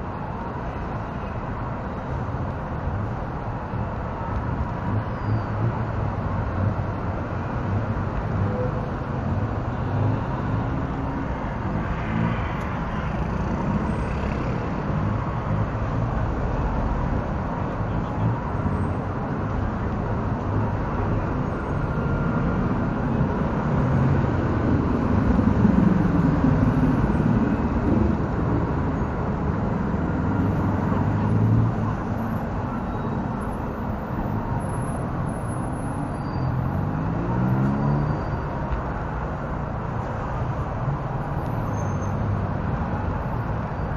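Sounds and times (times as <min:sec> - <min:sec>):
busy street traffic: 0:00.0 - 0:43.9
vehicle engines: 0:00.0 - 0:43.9.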